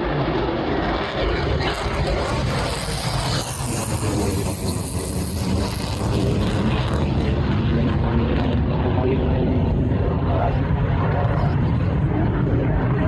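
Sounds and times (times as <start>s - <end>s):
jet flying overhead rumble: 0.0s - 13.0s.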